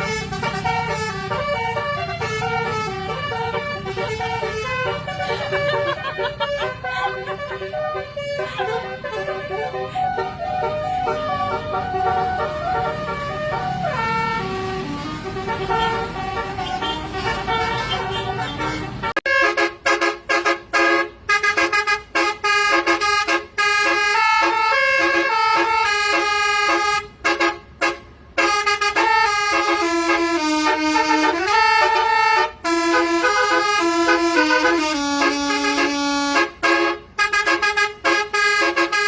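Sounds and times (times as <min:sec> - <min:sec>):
musical bus air horn melody: 0:00.0 - 0:39.0.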